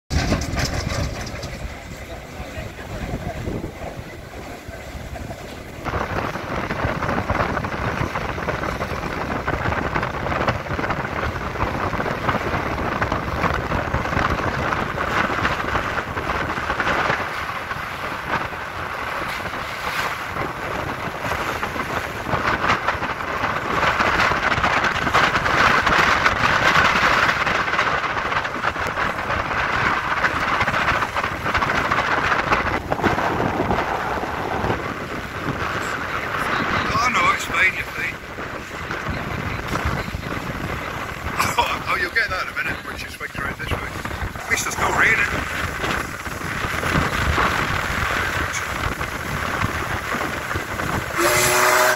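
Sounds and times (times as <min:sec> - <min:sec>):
paddle wheels churning water: 0:00.1 - 0:51.9
wind on microphone: 0:00.1 - 0:51.9.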